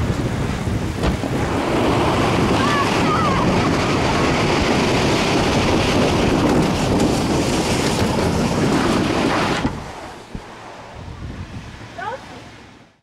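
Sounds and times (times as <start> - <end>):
tube rushing down water slide: 0.0 - 12.8
wind buffeting microphone: 0.0 - 12.9.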